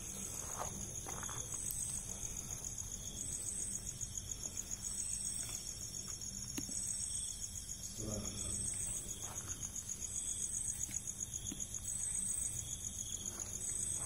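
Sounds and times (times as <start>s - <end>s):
crickets trilling: 0.0s - 14.0s
higher insect call: 0.0s - 14.0s.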